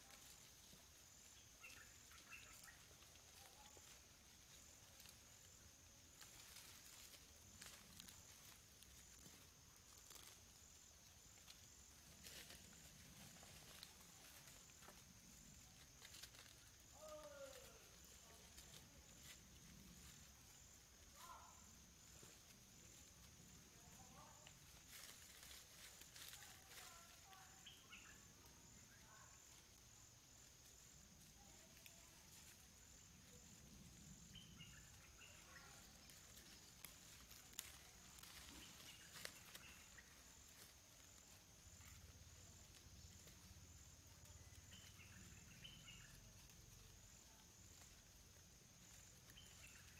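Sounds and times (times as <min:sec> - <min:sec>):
high insect drone: 0:00.0 - 0:49.9.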